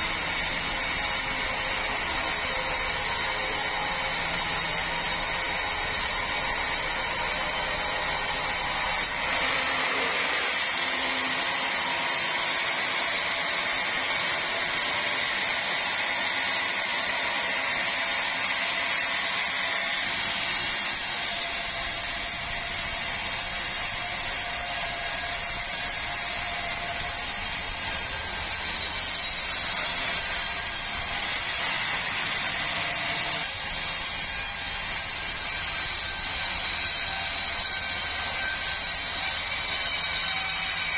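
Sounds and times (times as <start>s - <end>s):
powered saw cutting log: 0.0s - 40.9s.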